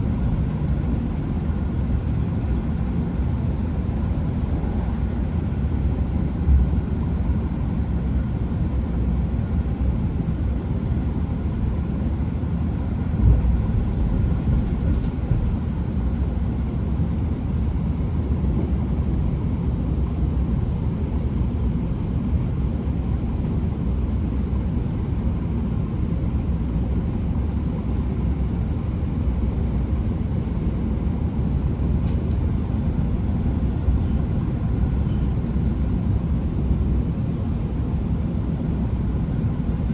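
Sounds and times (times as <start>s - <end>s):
train engine and wheels rumbling: 0.0s - 39.9s.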